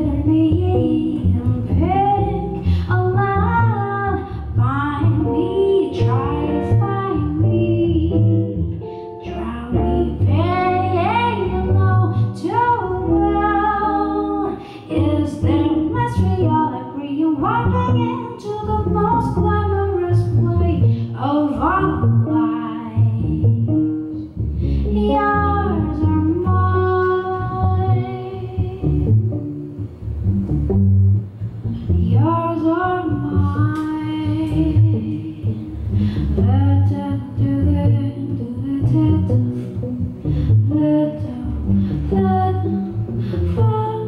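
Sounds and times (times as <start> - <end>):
woman singing: 0.0 - 8.5, 9.2 - 24.0, 24.9 - 29.1, 32.0 - 35.8, 36.4 - 39.6, 40.7 - 44.0
plucked double bass: 0.0 - 44.0.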